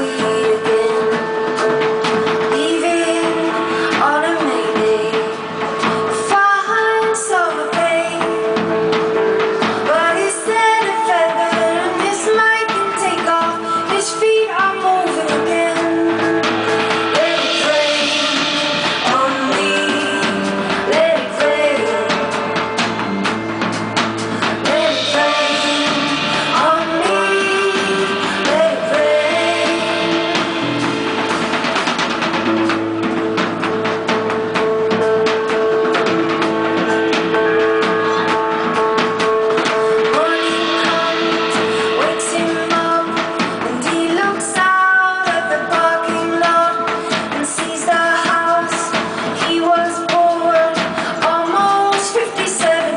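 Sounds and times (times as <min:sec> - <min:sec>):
woman singing: 0:00.0 - 0:23.0, 0:24.3 - 0:31.5, 0:36.8 - 0:52.9
band playing: 0:00.0 - 0:52.9.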